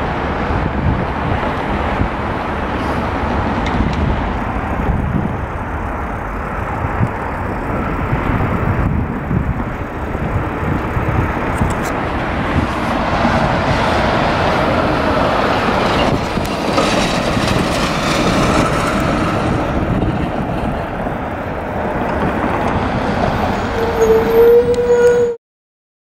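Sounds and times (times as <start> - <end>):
traffic rumbling over tracks: 0.0 - 25.4.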